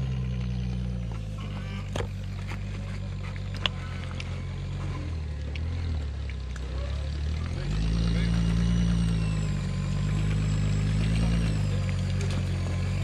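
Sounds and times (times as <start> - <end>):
buggy engine at low revs: 0.0 - 13.0.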